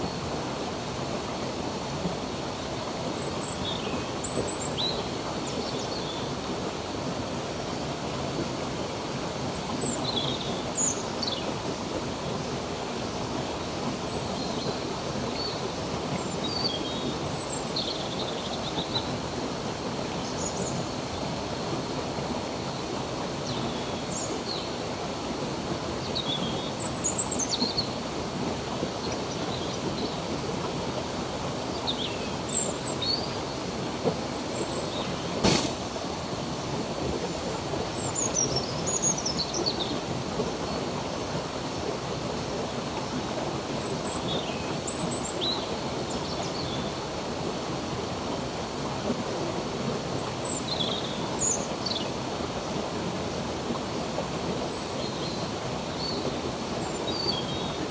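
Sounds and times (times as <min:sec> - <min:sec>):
stream running: 0:00.0 - 0:57.9.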